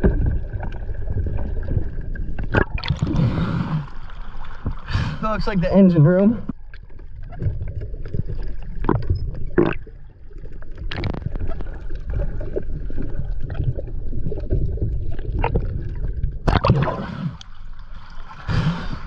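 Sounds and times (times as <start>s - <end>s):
gurgling bubbles: 0.0s - 5.1s, 6.5s - 19.0s
underwater rumble: 0.0s - 19.0s.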